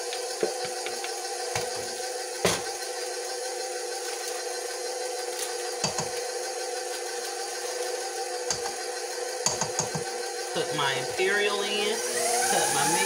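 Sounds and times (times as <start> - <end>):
stand mixer motor hum: 0.0 - 13.0.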